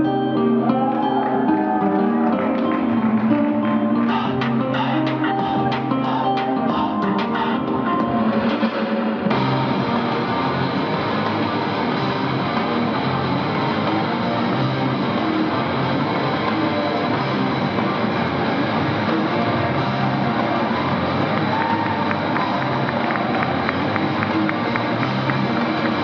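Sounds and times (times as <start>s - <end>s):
rock music with guitar and drums: 0.0s - 26.0s.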